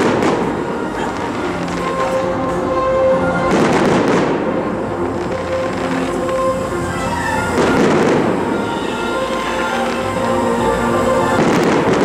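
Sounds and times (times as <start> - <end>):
fireworks crackling: 0.0 - 12.0
music: 0.0 - 12.0.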